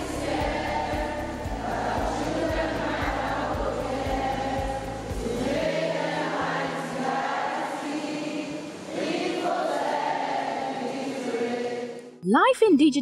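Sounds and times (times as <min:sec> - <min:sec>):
girls singing in chorus: 0:00.0 - 0:12.2.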